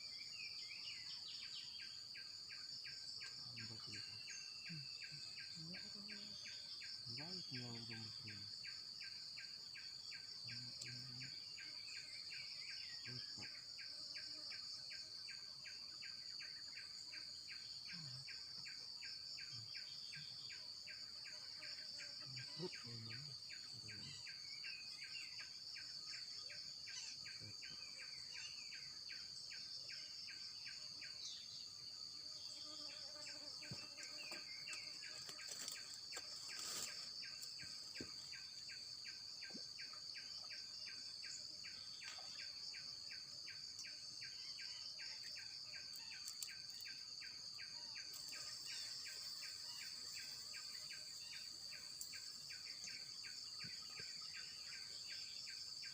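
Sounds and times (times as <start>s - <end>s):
high-pitched insect drone: 0.0s - 55.9s
rhythmic insect chirping: 0.0s - 55.9s.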